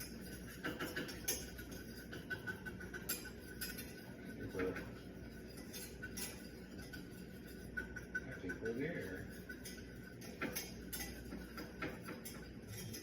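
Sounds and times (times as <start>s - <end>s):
utensil scraping in a pan: 0.0s - 13.0s.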